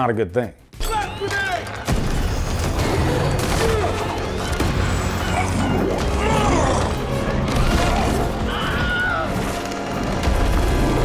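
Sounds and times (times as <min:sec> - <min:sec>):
dramatic music: 0:00.7 - 0:11.0.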